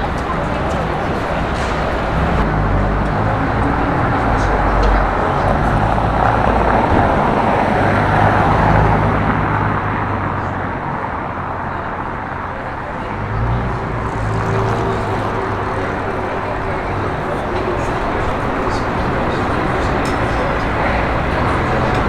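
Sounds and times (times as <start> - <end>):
car engines passing: 0.0 - 22.0
steady road noise: 0.0 - 22.0.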